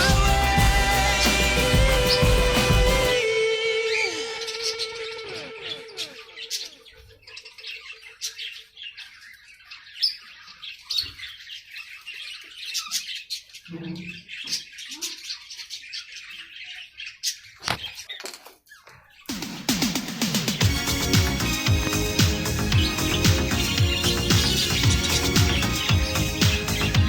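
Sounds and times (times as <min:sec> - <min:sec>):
birds chirping: 0:00.0 - 0:27.0
bird squawks: 0:03.2 - 0:18.1, 0:18.8 - 0:27.0.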